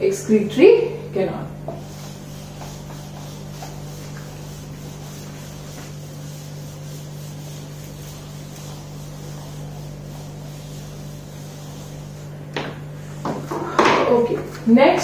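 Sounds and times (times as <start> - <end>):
steady low hum: 0.0 - 15.0
duster rubbing a whiteboard: 1.6 - 15.0.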